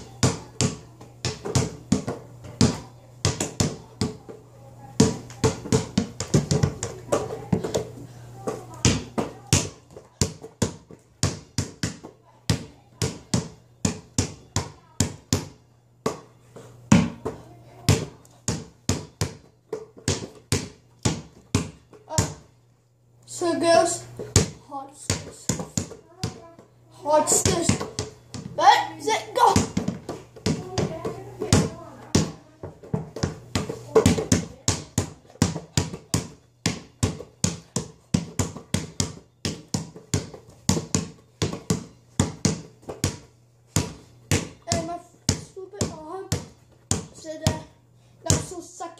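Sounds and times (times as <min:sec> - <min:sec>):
basketball bouncing: 0:00.0 - 0:04.4, 0:05.0 - 0:07.9, 0:08.5 - 0:16.3, 0:16.9 - 0:22.5, 0:24.2 - 0:26.6, 0:27.3 - 0:28.6, 0:29.4 - 0:47.7, 0:48.3 - 0:48.6.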